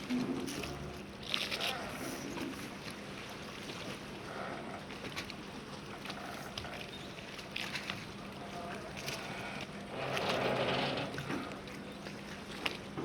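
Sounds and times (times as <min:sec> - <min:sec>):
continuous background wash: 0:00.0 - 0:13.0.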